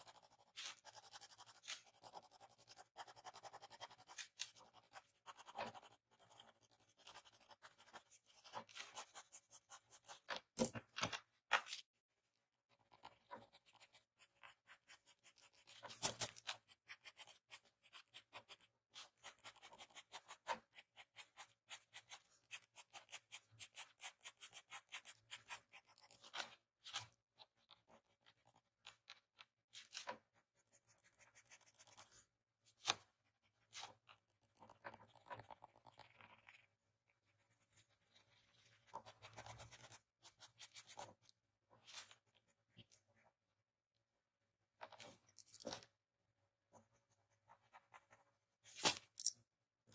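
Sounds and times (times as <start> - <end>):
pencil scratching on paper: 0.0 - 10.6, 11.8 - 29.1, 29.7 - 43.4, 46.7 - 49.0.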